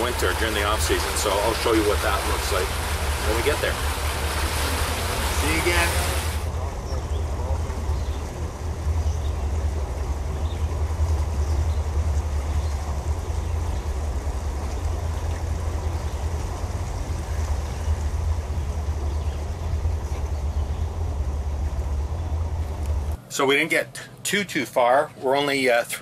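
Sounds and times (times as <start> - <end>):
boat engines rumbling: 0.0 - 26.0.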